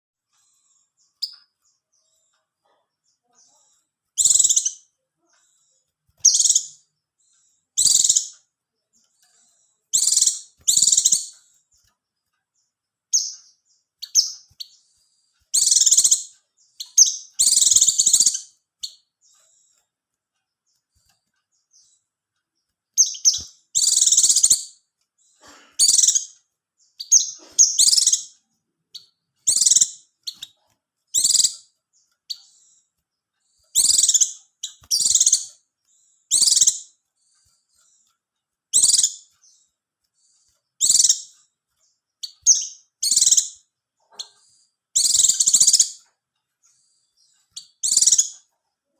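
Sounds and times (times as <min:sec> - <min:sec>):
bird twittering song: 0:00.2 - 0:48.9.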